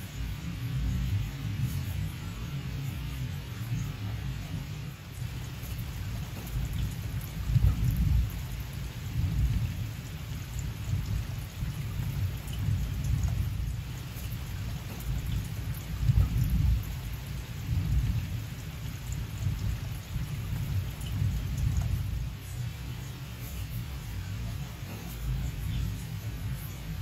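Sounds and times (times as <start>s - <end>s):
rain falling: 0.0s - 27.0s
thunder rumbling: 0.0s - 27.0s.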